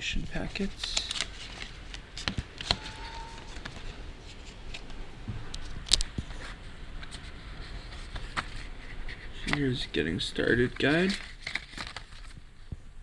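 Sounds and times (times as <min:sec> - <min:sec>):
paper and cardboard rustling: 0:00.2 - 0:12.8.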